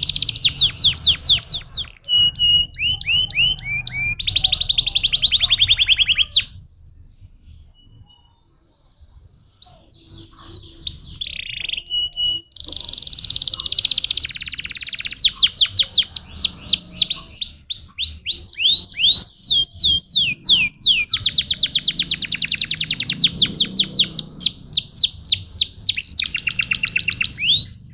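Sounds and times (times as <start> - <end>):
canary singing trills: 0.0 - 27.9.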